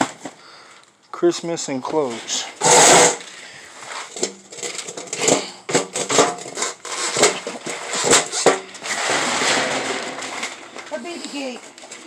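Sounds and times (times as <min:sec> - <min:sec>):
junk clattering on concrete floor: 0:00.0 - 0:00.4, 0:01.8 - 0:12.0.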